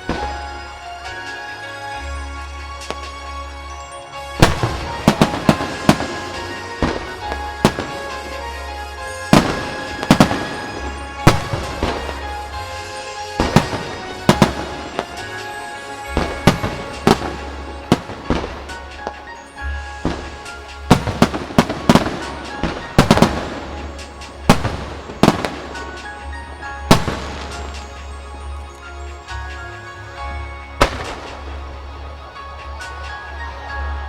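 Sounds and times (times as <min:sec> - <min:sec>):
fireworks booming and crackling: 0:00.0 - 0:34.0
music: 0:00.0 - 0:34.0.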